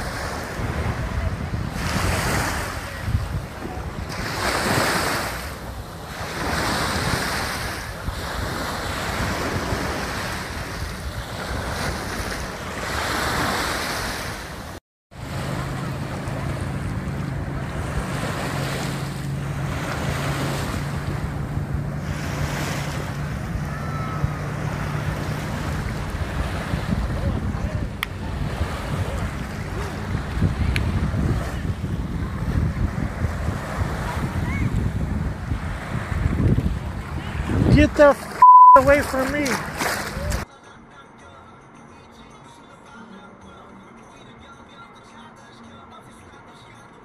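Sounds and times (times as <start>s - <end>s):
wind buffeting microphone: 0.0s - 14.6s, 15.3s - 38.4s
waves washing on sandy shore: 0.0s - 40.5s.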